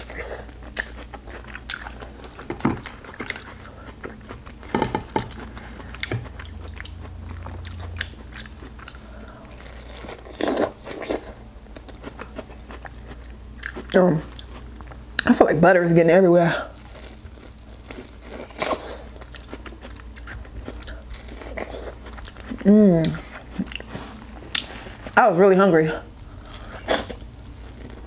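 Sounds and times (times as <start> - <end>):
chewing corn on the cob: 0.0 - 15.3, 16.7 - 25.1.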